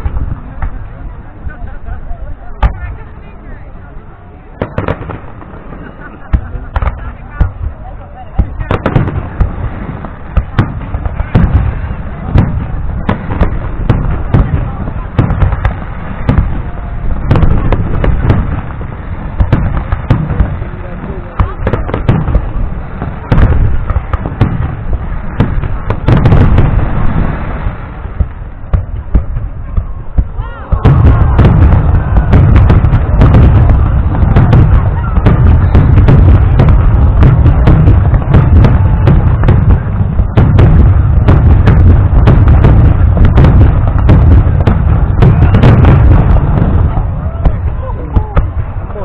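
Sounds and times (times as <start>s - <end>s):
fireworks bangs and crackles: 0.0s - 49.0s
low rumble: 0.0s - 49.0s.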